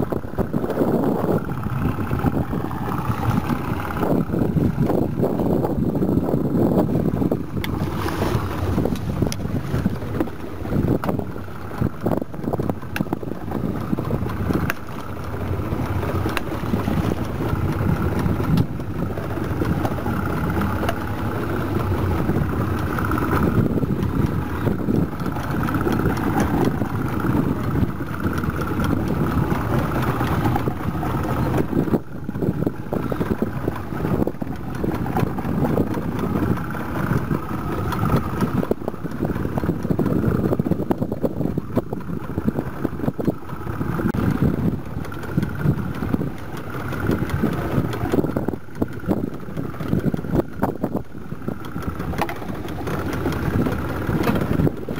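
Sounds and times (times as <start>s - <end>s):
boat engine running: 0.0s - 54.9s
wind buffeting microphone: 0.0s - 54.9s.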